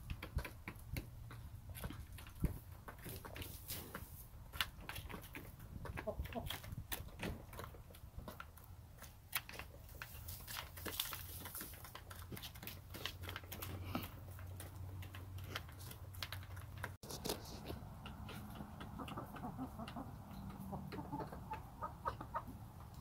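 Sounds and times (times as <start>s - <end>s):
hens pecking at feed: 0.0s - 23.0s.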